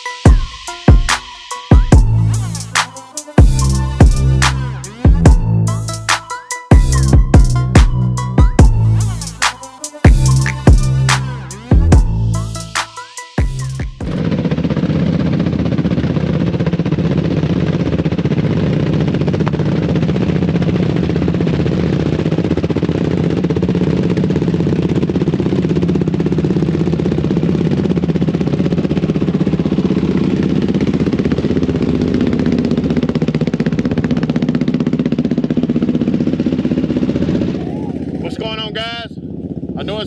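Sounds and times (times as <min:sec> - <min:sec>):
atv engine idling: 0:01.9 - 0:09.5, 0:10.1 - 0:12.8, 0:13.5 - 0:40.0.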